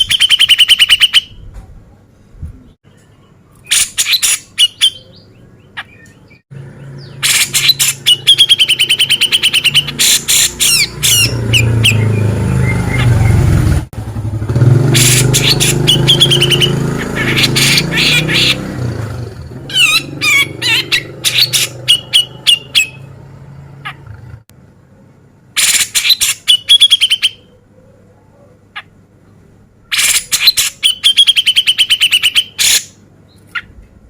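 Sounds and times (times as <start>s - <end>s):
bulbul chattering song: 0.0s - 1.4s, 2.9s - 13.7s, 14.6s - 24.2s, 25.6s - 33.8s.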